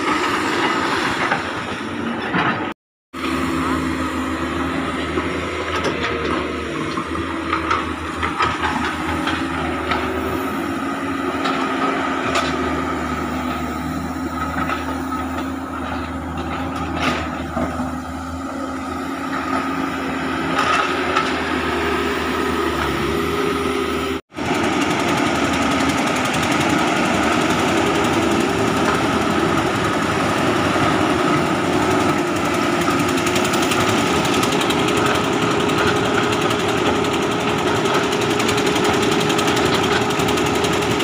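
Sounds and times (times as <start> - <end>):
excavator diesel engines running: 0.0 - 41.0.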